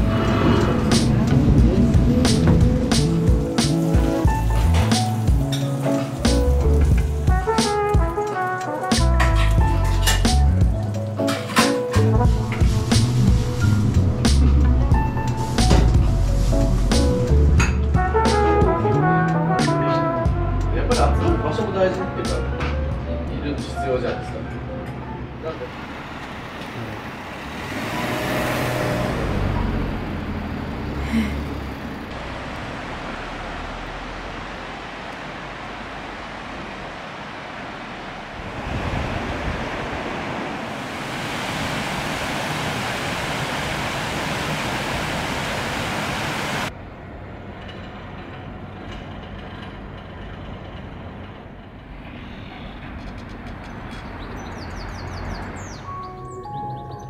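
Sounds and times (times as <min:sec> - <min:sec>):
outdoor town ambience: 0:00.0 - 0:57.0.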